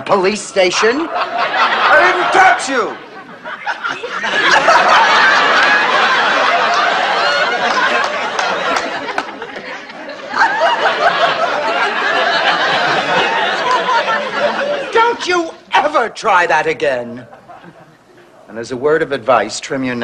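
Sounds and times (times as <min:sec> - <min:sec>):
studio audience laughing: 0:00.6 - 0:15.3, 0:17.1 - 0:18.4.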